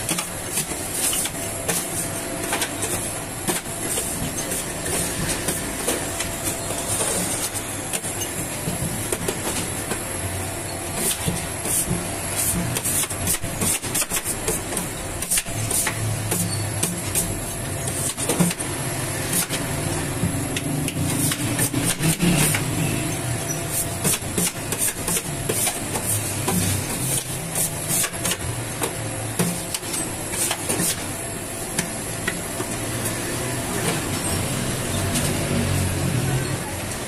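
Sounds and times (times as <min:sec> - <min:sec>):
dough machine humming: 0:00.0 - 0:37.0.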